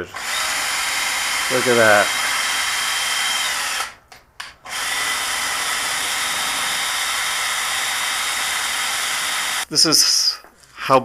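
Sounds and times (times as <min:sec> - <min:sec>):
cordless drill running: 0:00.1 - 0:04.0, 0:04.6 - 0:09.6.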